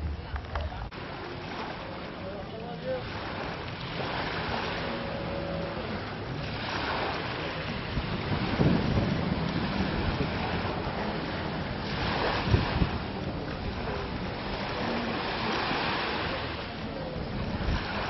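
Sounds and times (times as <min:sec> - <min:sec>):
sea washing on shore: 0:00.0 - 0:18.0
wind buffeting microphone: 0:02.1 - 0:18.0.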